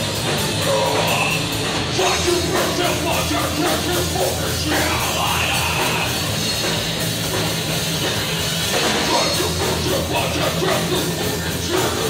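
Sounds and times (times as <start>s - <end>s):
bass guitar: 0.0s - 12.0s
drum kit: 0.0s - 12.0s
electric guitar: 0.0s - 12.0s.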